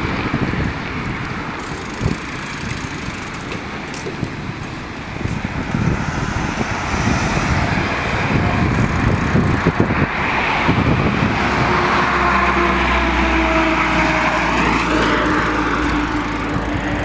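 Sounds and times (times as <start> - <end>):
road traffic rumble: 0.0 - 17.0
steady engine hum: 0.0 - 17.0.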